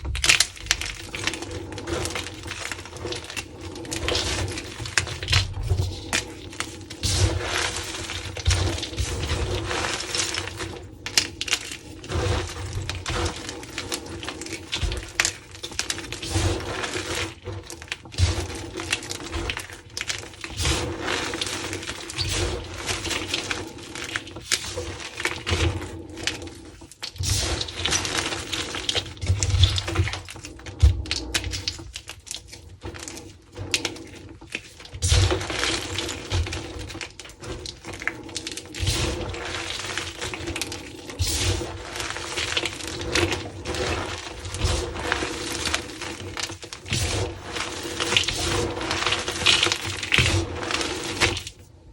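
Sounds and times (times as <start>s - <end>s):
chalk crunching and crackling: 0.0s - 51.8s.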